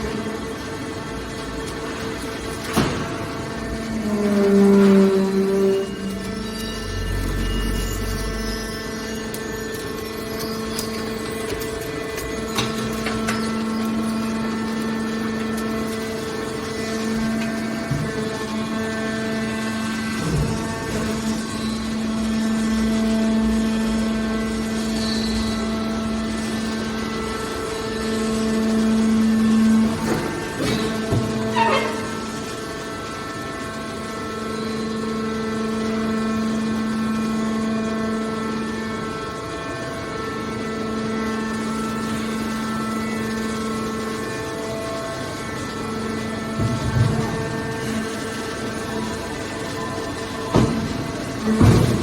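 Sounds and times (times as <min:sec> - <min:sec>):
baler machine hum and whine: 0:00.0 - 0:52.0.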